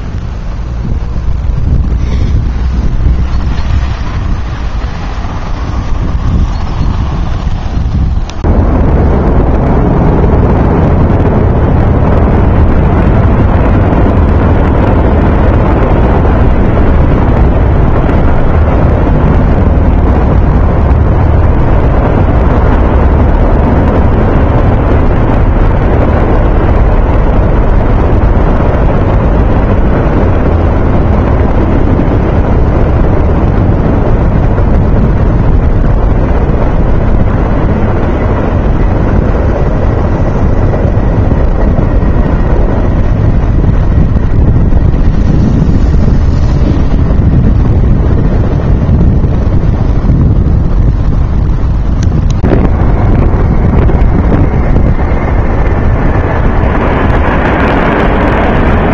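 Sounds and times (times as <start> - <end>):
helicopters droning overhead: 0.0 - 58.9.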